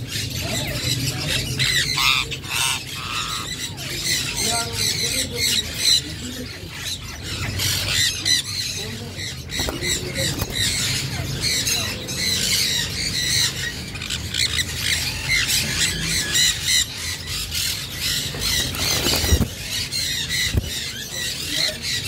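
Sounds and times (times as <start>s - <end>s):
parakeets squawking and chattering: 0.0s - 22.0s.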